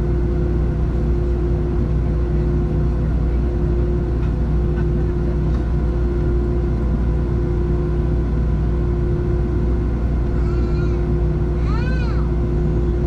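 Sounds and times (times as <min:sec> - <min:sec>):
constant hum tone: 0:00.0 - 0:13.0
jet engines rumbling: 0:00.0 - 0:13.0.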